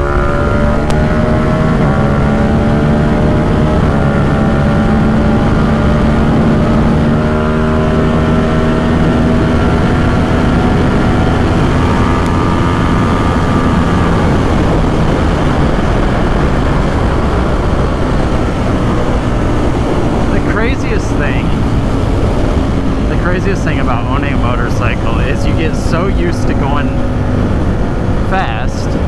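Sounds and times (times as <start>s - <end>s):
motorcycle engine running at speed: 0.0s - 29.0s.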